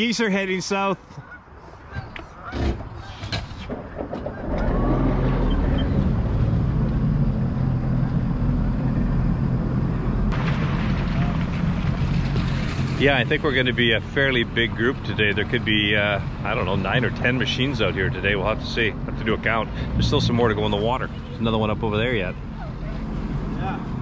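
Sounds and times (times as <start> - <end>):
watercraft engine idling: 4.4 - 24.0.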